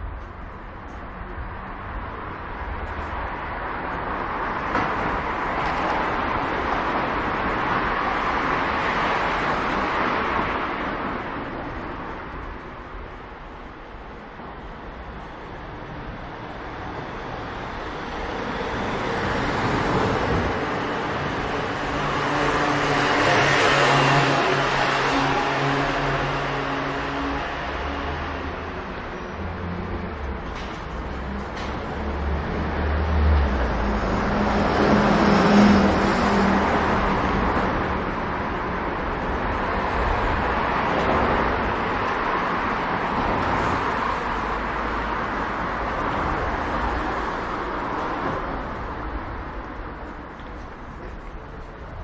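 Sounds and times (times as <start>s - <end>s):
car passing: 1.5s - 52.0s.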